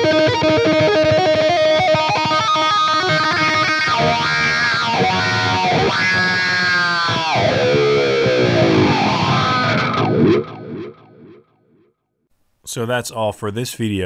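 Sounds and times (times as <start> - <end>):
distorted electric guitar solo: 0.0 - 11.5.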